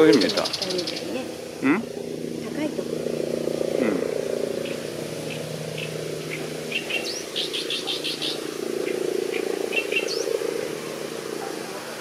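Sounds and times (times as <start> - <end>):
reed warbler singing: 0.0 - 12.0
steady low hum: 0.0 - 12.0.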